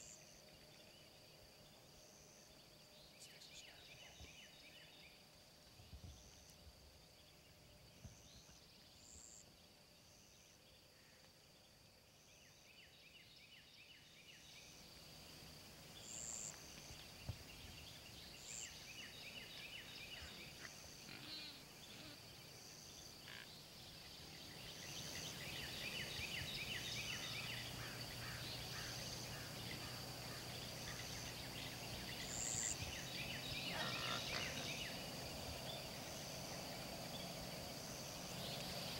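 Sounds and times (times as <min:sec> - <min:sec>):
insect chirps: 0:00.0 - 0:38.9
insects chorusing: 0:00.0 - 0:38.9
rapid pulsed insect trills: 0:00.0 - 0:38.9
short higher insect calls: 0:00.0 - 0:38.9.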